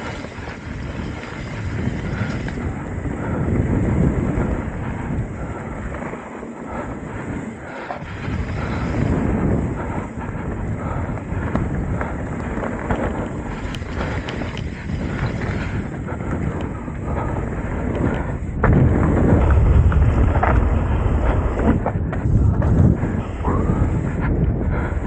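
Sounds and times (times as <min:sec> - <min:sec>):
bike chain and frame rattling: 0:00.0 - 0:21.4
bike tyres rolling on dirt: 0:00.0 - 0:25.0
wind buffeting microphone: 0:00.0 - 0:25.0.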